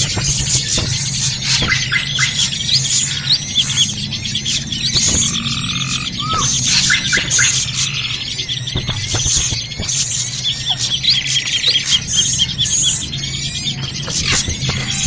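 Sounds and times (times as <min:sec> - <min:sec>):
chorus of small birds chirping: 0:00.0 - 0:15.0.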